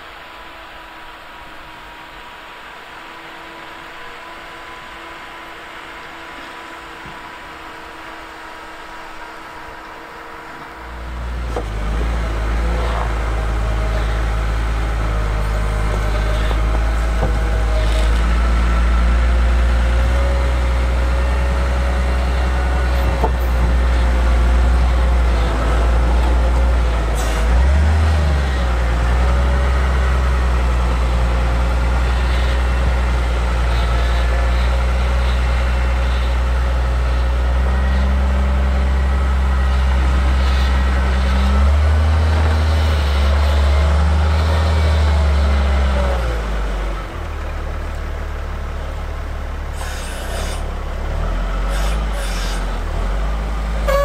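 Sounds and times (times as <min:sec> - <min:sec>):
faint engine whine: 0:00.0 - 0:54.0
diesel engine revving: 0:08.4 - 0:54.0.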